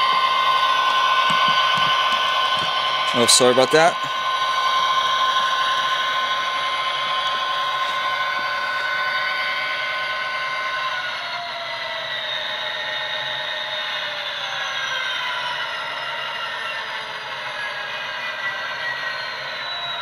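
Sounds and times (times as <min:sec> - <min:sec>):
model locomotive engine sound: 0:00.0 - 0:20.0.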